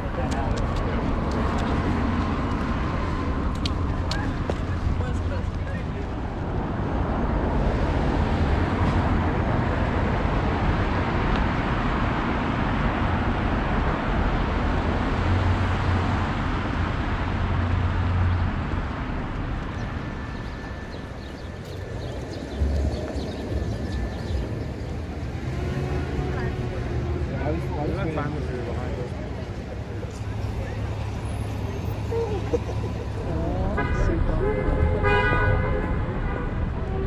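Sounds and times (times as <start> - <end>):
cars passing: 0.0 - 37.0.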